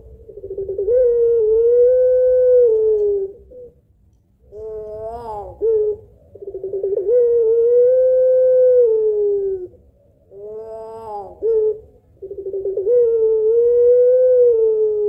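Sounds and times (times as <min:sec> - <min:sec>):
dove cooing: 0:00.0 - 0:03.8, 0:04.4 - 0:15.0.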